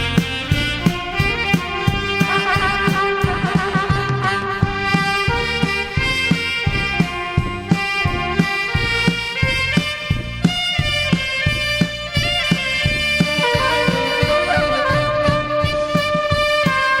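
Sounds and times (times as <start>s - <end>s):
steady drum beat: 0.0s - 17.0s
wind instrument melody: 0.0s - 17.0s.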